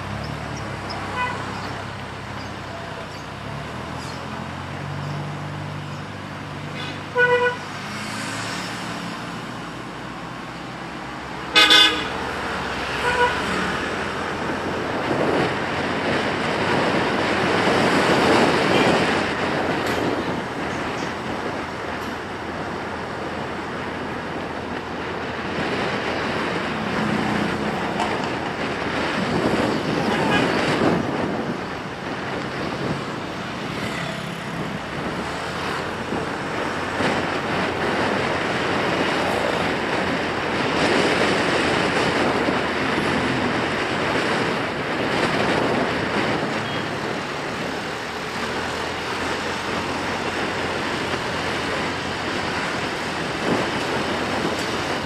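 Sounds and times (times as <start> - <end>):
motorbike engine and road noise: 0.0 - 55.0.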